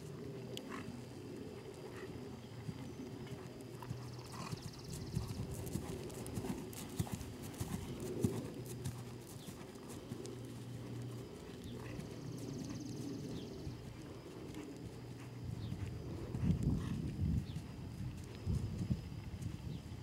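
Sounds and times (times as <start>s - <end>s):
horse hooves trotting on grass: 0.0s - 20.0s
steady low hum: 0.0s - 20.0s.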